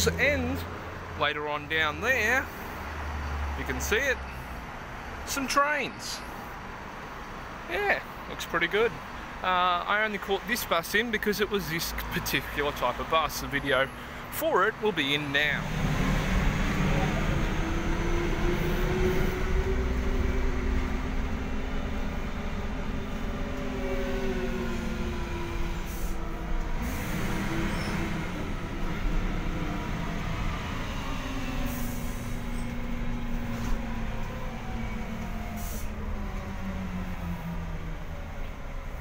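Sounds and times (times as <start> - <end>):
bus engine rumble and whine: 0.0 - 39.0.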